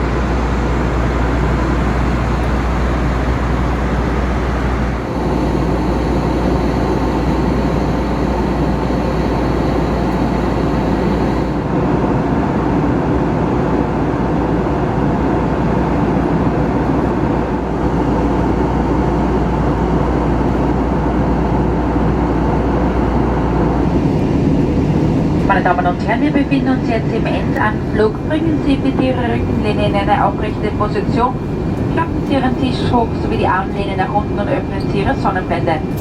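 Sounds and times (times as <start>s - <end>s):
aircraft engines droning: 0.0s - 36.0s.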